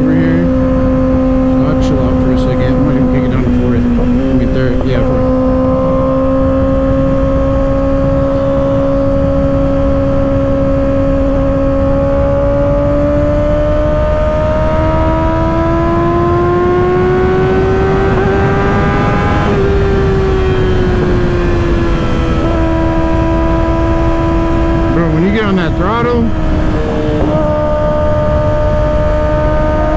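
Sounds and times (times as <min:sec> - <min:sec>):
motorcycle engine cruising: 0:00.0 - 0:29.9
wind rush: 0:00.0 - 0:29.9.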